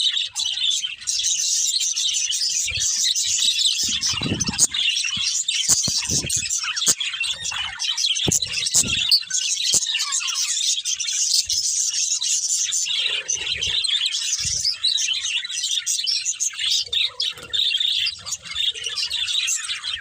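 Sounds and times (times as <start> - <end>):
budgerigars chirping and chattering: 0.0 - 20.0.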